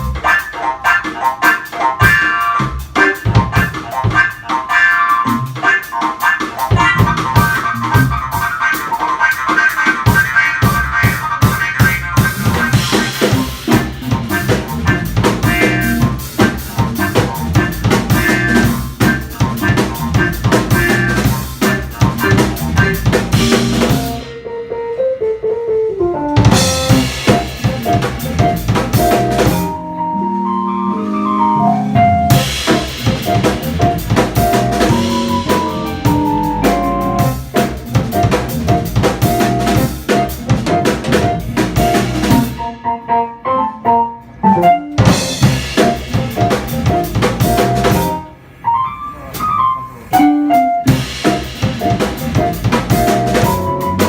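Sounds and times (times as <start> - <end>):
drum kit with rimshots: 0.0 - 54.0
jazz band playing: 0.0 - 54.0.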